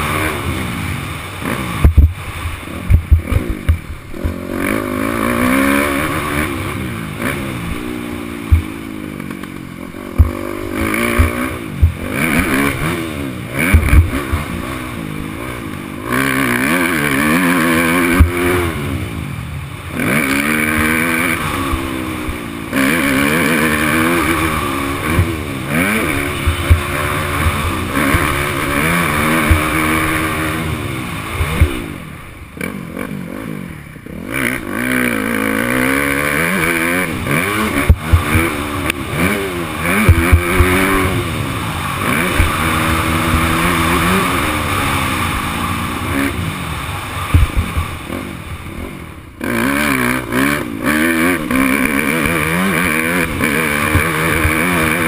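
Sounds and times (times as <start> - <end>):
motorbike engine revving: 0.0 - 55.0
rushing noise: 0.0 - 55.0.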